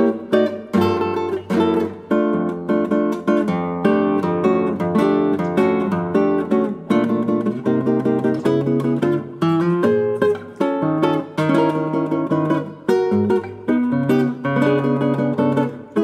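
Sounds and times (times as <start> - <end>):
nylon-string guitar bossa nova: 0.0 - 16.0.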